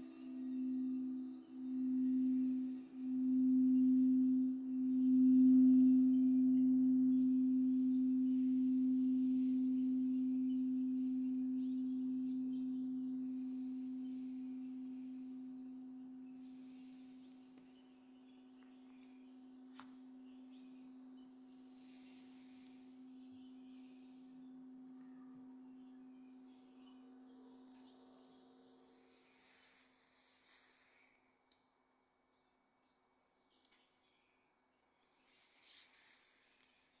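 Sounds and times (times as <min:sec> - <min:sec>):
singing bowl low tone: 0:00.0 - 0:29.8.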